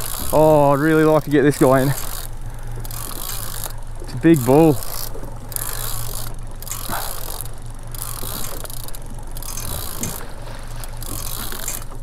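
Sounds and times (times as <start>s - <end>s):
outboard motor humming: 0.0s - 12.0s
water and wind hiss: 0.0s - 12.0s.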